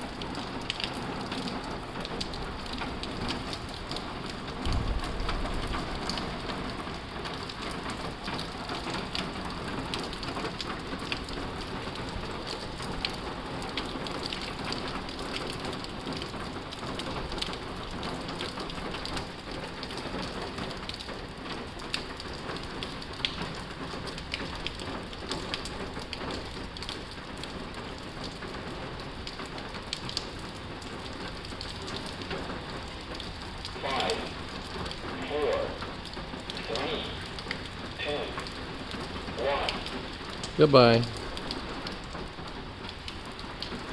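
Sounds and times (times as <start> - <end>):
heavy rain on a tin roof: 0.0 - 43.9.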